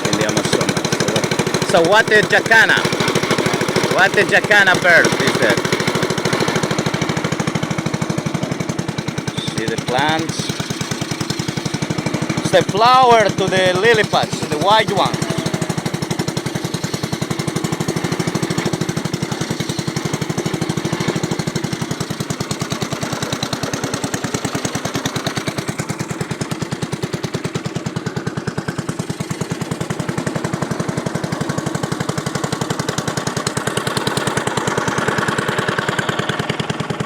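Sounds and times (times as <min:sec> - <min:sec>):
small boat engine running: 0:00.0 - 0:37.0.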